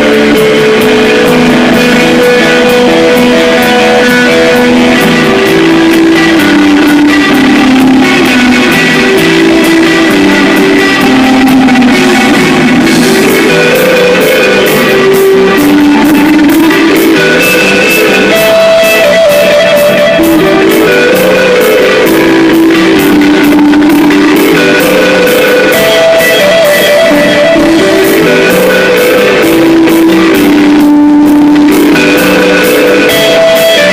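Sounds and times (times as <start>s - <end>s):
electric guitar melody: 0.0s - 33.9s
rock band playing live: 0.0s - 33.9s.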